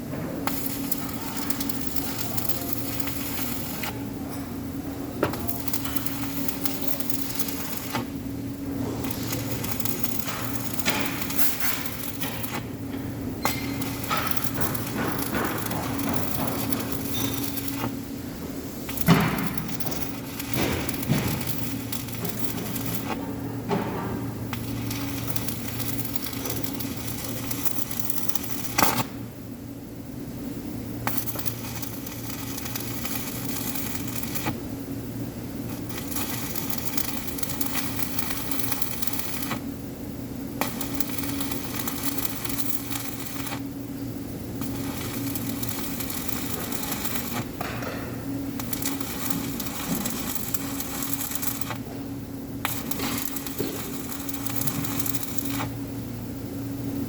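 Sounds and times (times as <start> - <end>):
arc welding crackling: 0.0 - 57.0
electrical hum: 0.0 - 57.0.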